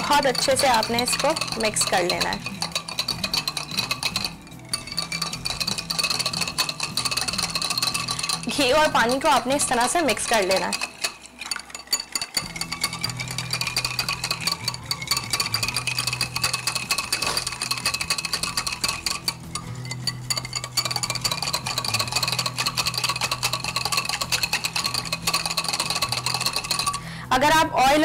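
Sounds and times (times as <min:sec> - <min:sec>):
whisk tapping and scraping bowl: 0:00.0 - 0:27.2.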